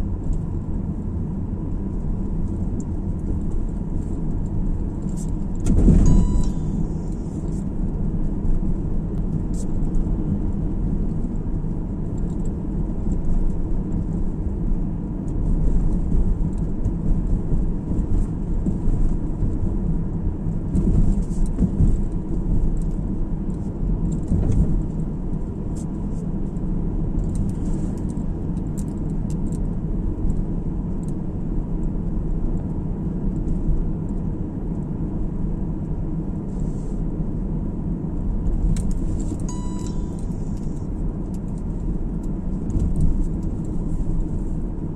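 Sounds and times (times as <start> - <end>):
car tyres and engine rumble: 0.0 - 44.9.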